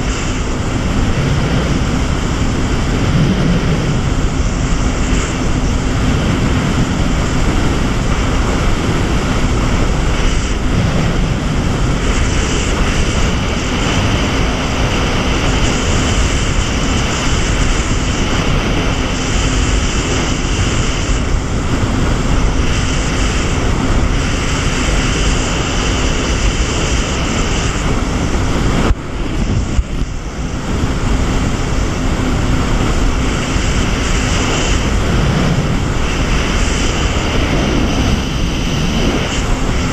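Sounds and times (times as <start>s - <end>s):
jet ski engine: 0.0s - 39.9s
rushing water and spray: 0.0s - 39.9s.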